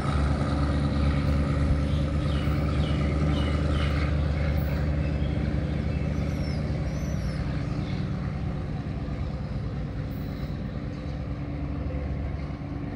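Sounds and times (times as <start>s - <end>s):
locomotive engine drone: 0.0s - 12.9s.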